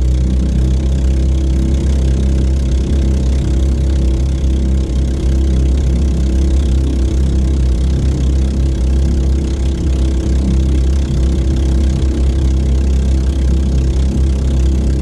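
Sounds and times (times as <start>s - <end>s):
boat engine at high revs: 0.0s - 15.0s.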